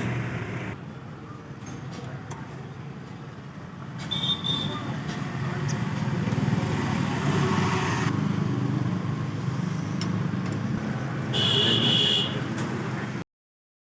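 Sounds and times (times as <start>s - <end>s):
engine rumbling: 0.0s - 13.1s.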